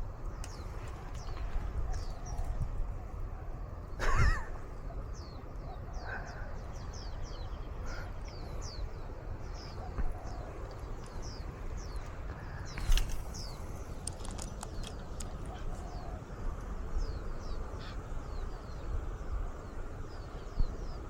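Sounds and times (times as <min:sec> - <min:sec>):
birds chirping: 0:00.0 - 0:21.0
low wind rumble: 0:00.0 - 0:21.0.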